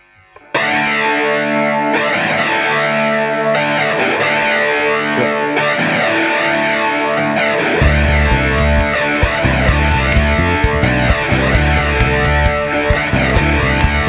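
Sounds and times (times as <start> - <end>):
distorted electric guitar chords: 0.0 - 14.0
faint filtered guitar: 0.0 - 14.0.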